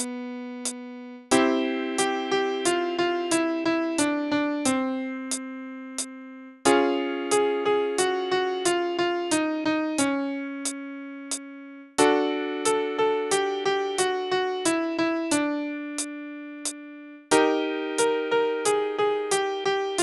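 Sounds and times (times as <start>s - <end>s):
piano playing scales: 1.3s - 5.5s, 6.7s - 20.0s.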